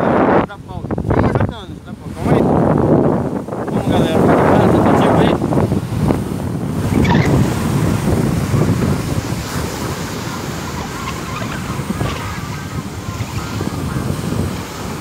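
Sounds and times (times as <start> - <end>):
ocean surf breaking: 0.0 - 15.0
wind blowing on microphone: 0.0 - 15.0.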